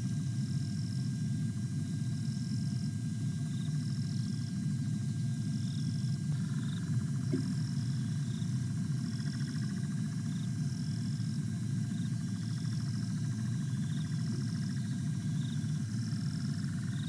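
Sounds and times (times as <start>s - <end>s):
steady low hum: 0.0s - 17.0s
fast pulsing insect trill: 2.1s - 17.0s
insects chirping: 2.1s - 17.0s.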